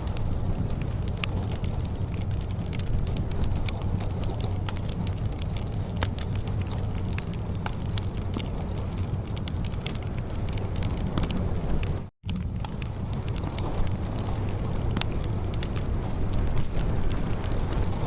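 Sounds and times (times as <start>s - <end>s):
fireplace fire crackling: 0.0s - 18.0s
rain hiss: 0.0s - 18.0s.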